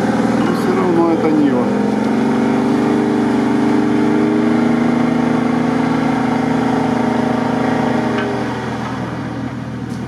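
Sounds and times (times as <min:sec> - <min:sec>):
off-road vehicle engine under load: 0:00.0 - 0:10.0.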